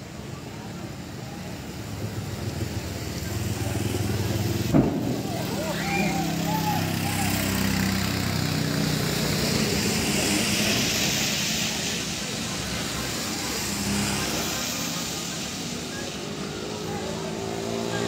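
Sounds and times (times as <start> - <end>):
tyre hiss on wet road: 0.0 - 18.0
vehicle engines: 0.0 - 18.0
truck passing: 1.3 - 18.0.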